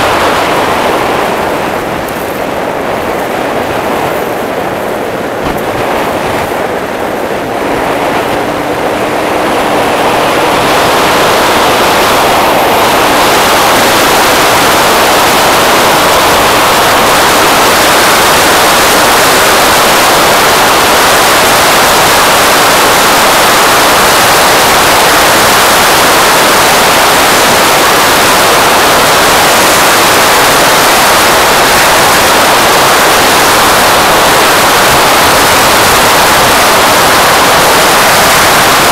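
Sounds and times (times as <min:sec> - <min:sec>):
engine whine: 0:00.0 - 0:38.9
wind rushing over microphone: 0:00.0 - 0:38.9.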